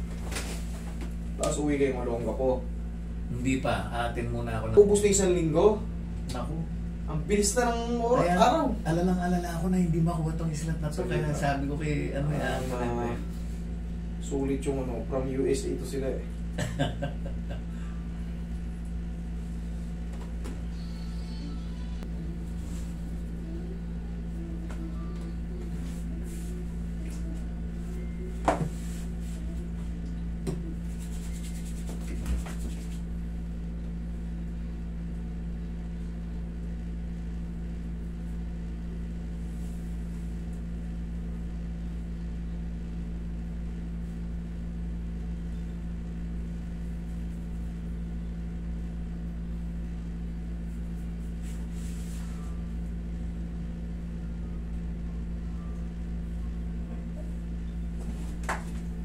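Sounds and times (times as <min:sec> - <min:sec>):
air conditioner humming: 0:00.0 - 0:59.0.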